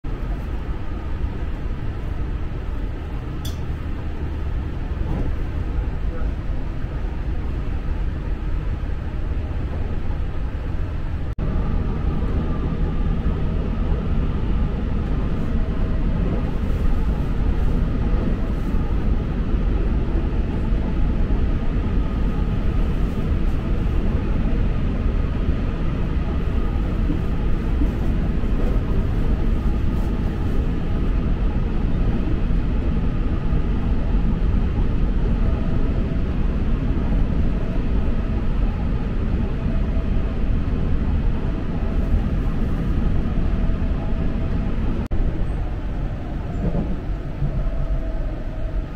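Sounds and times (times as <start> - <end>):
train wheels rumbling on track: 0.0 - 48.9.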